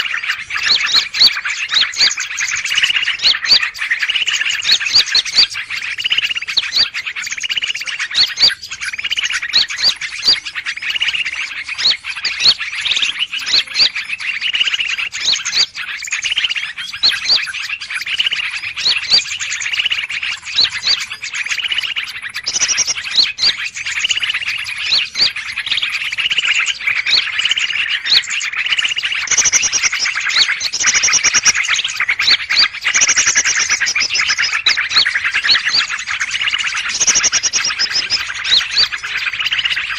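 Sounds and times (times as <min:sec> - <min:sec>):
many birds chirping and calling: 0:00.0 - 0:39.9.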